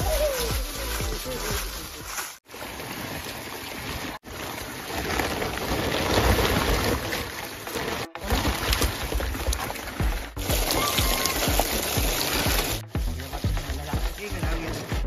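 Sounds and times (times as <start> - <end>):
water gushing from a pipe: 2.4 - 15.0.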